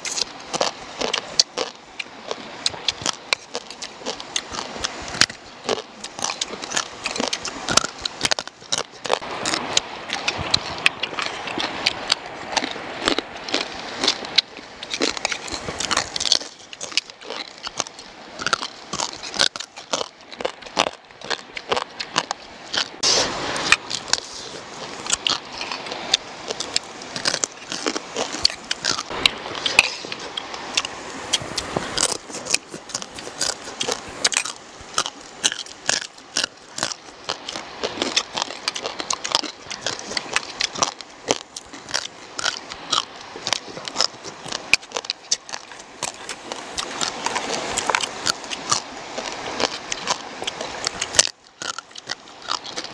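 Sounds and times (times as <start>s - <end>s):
chewing and crunching: 0.0s - 52.9s.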